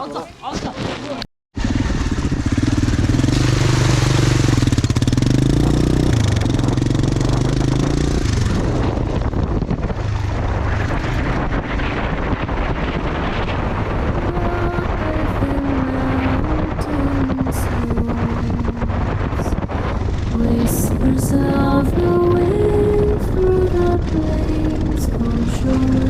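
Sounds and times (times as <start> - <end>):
road and wind noise: 0.0 - 26.0
motorbike engine running: 1.6 - 26.0.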